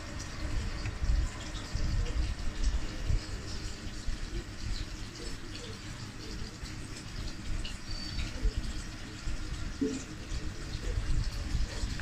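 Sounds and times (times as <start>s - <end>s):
water gurgling in a fish tank: 0.0s - 12.0s.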